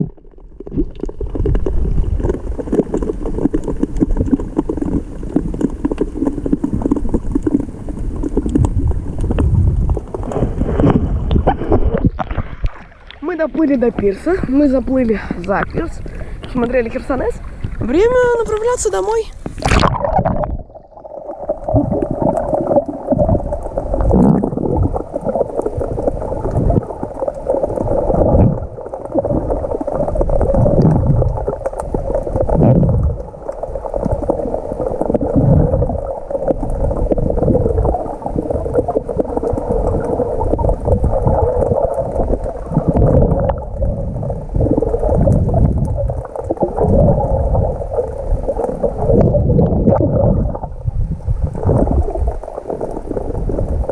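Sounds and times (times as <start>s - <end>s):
muffled water sloshing and gurgling: 0.0s - 53.9s.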